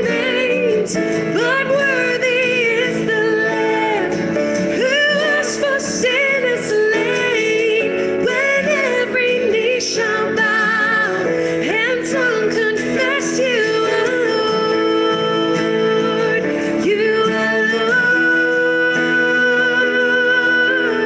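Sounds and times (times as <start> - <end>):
keyboard: 0.0 - 21.0
man singing along: 0.0 - 21.0
strummed acoustic guitar: 0.0 - 21.0
woman singing: 0.0 - 21.0.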